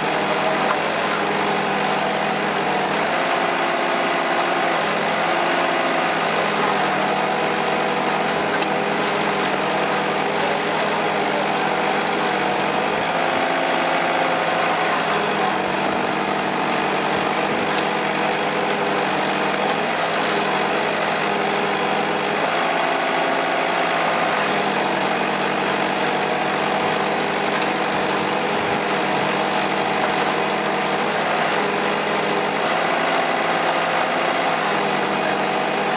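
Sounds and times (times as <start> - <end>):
backhoe loader engine running: 0.0 - 35.9.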